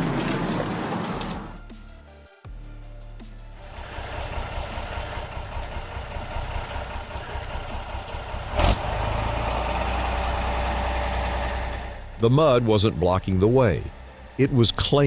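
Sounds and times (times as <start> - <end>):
truck engine rumbling: 0.0 - 1.7, 3.5 - 15.0.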